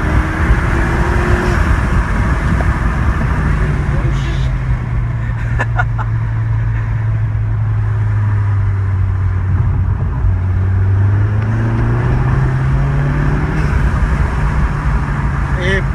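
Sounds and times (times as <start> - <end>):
car engine droning: 0.0 - 15.9.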